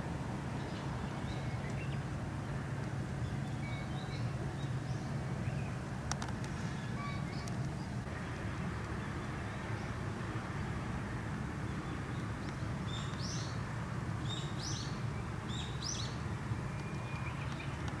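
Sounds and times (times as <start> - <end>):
steady low background noise: 0.0 - 18.0.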